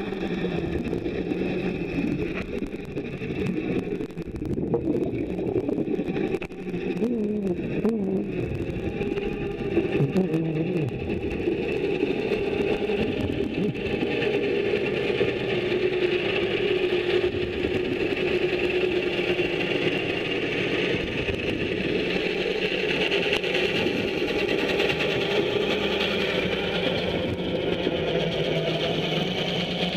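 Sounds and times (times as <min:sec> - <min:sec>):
underwater machine drone: 0:00.0 - 0:29.9.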